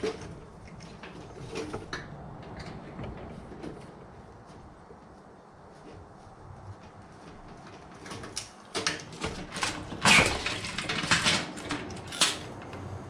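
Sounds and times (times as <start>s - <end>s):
knocks and rattles of metal and plastic: 0.0s - 4.6s, 6.7s - 13.0s.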